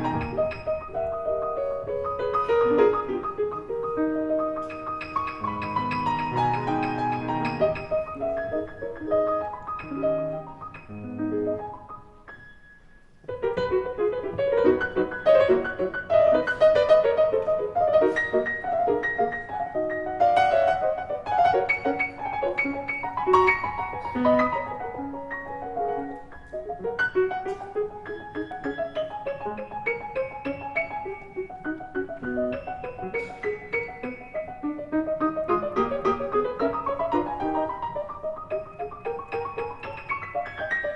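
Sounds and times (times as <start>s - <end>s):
piano background music: 0.0s - 40.9s.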